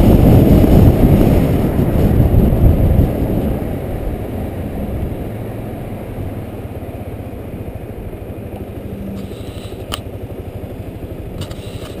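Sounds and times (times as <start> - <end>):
motorcycle engine rumbling: 0.0 - 12.0
road noise: 0.0 - 12.0.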